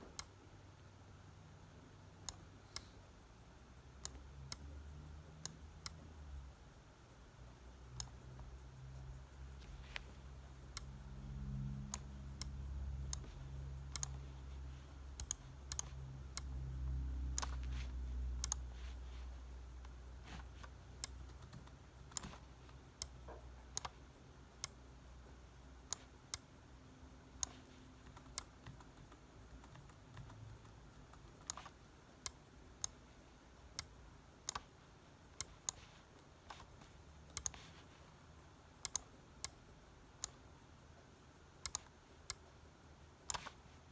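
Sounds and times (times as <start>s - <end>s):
low hum: 0.0s - 43.9s
laptop keys and mouse clicks: 2.0s - 3.0s, 3.8s - 6.4s, 7.8s - 24.9s, 25.8s - 26.5s, 27.2s - 38.2s, 38.8s - 40.4s, 41.5s - 42.5s, 43.2s - 43.9s.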